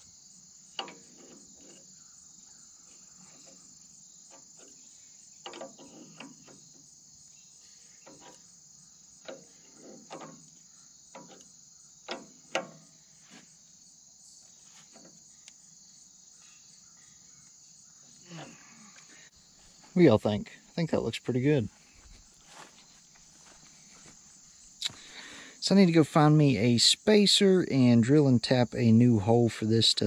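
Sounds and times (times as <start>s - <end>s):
insect chorus: 0.0s - 30.0s.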